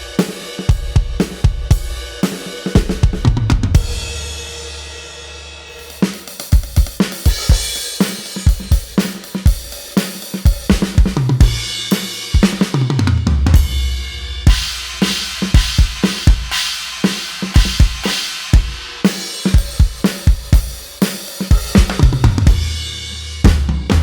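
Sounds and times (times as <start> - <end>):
electronic drum beat: 0.0 - 4.1, 5.8 - 24.0.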